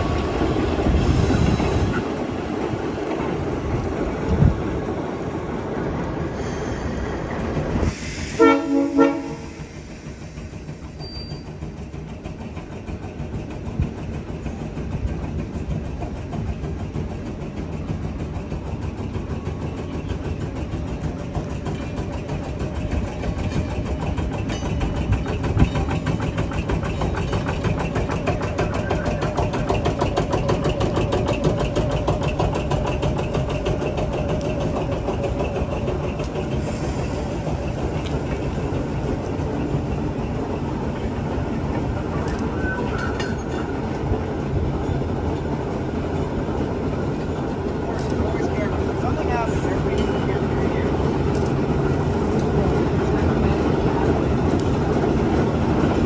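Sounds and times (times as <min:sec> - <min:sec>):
train passing close by: 0:00.0 - 0:56.0.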